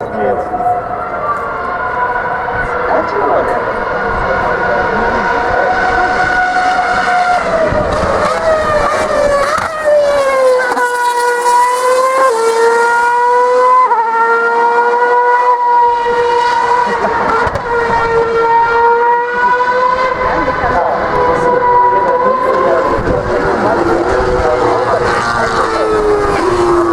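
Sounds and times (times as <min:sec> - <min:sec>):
gear change pitch jumps: 0:00.0 - 0:26.9
racing car engines at high revs: 0:00.0 - 0:26.9.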